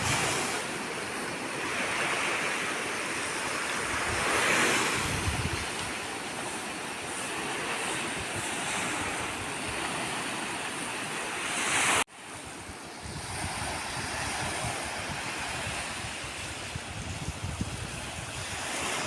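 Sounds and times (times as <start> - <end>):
wind on microphone: 0.0 - 10.4, 11.8 - 19.0
ocean surf washing ashore: 0.0 - 19.0.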